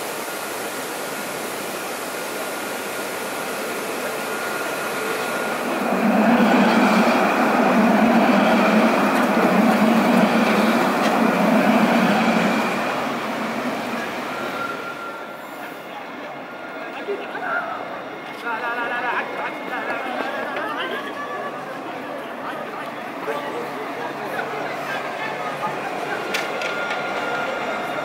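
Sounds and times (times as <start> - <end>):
tram passing: 0.0 - 28.0.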